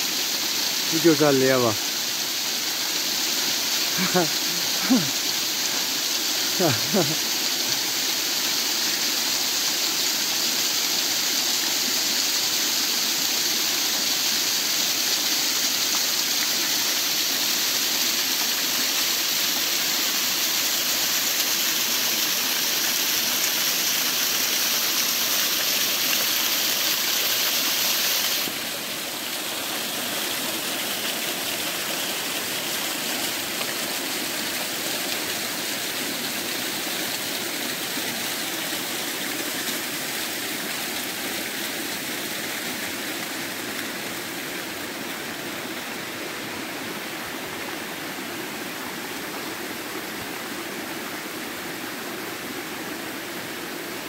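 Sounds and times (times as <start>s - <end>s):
waterfall splashing over rocks: 0.0s - 54.0s.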